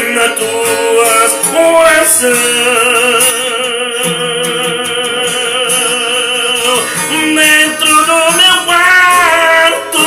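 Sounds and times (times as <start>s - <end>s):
classical guitar strumming: 0.0s - 10.0s
man singing a hymn: 0.0s - 10.0s.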